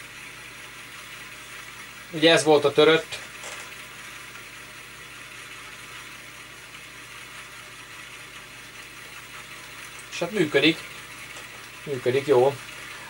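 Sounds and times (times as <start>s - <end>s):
floppy drive whirring: 0.2s - 13.0s.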